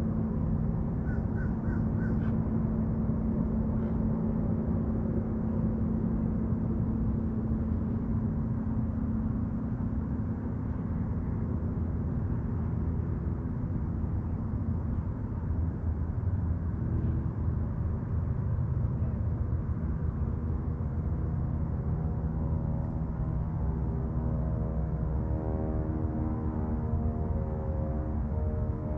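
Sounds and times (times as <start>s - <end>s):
distant motorboat engine rumble: 0.0s - 28.9s
steady hum: 0.0s - 28.9s.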